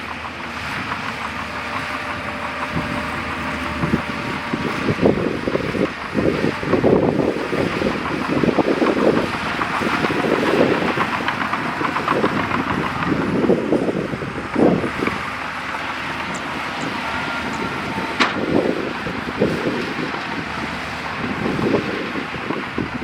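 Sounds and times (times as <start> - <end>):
knocks and clanks: 0.0 - 20.4
bulldozer diesel engine under load: 0.0 - 23.0
wind buffeting microphone: 0.0 - 23.0.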